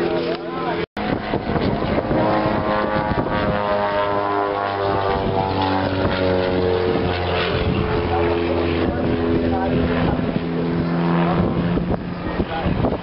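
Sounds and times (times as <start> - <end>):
propeller airplane flying by: 0.0 - 13.0.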